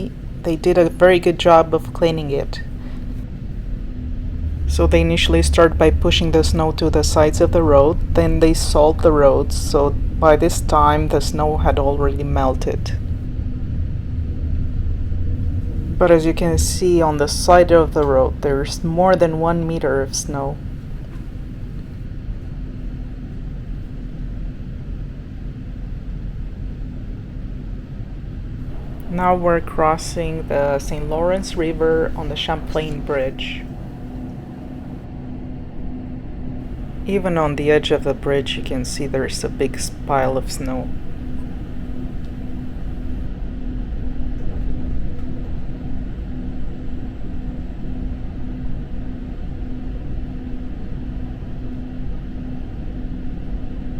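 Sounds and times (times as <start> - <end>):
train rumble: 0.0 - 53.8
faint steady hum: 0.0 - 53.9.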